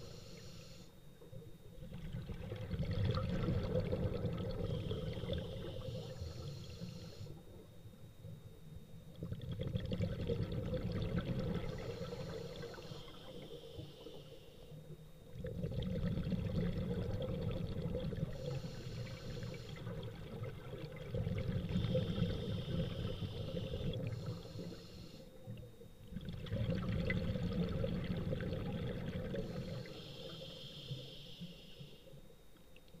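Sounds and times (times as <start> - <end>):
diver breathing bubbles underwater: 1.8 - 7.7, 9.2 - 14.4, 15.4 - 32.1.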